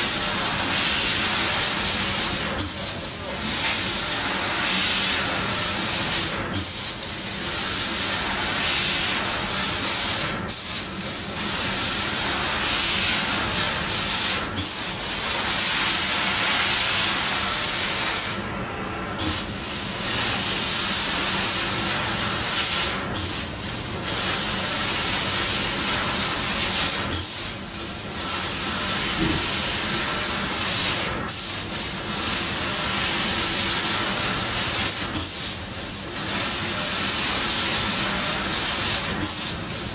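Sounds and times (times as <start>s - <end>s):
laser cutter gas jet hiss: 0.0s - 18.4s, 19.2s - 39.9s
faint machine hum: 0.0s - 39.9s.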